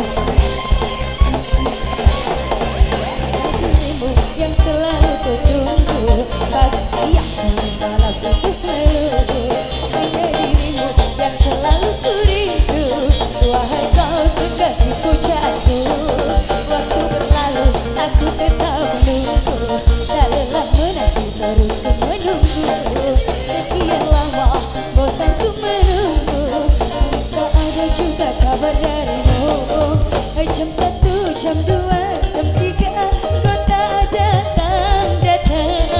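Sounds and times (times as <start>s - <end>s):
bass drum beat: 0.0s - 35.9s
live band playing: 0.0s - 35.9s
woman singing: 3.4s - 35.9s.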